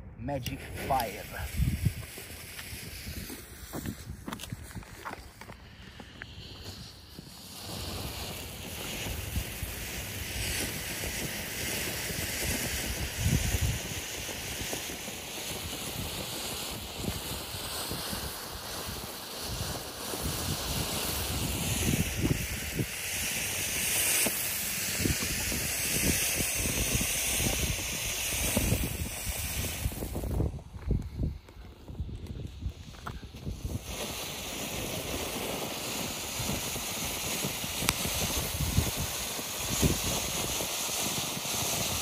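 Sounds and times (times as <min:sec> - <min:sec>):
firework crackling pops: 0:00.3 - 0:42.0
firework fountain hissing: 0:00.3 - 0:42.0.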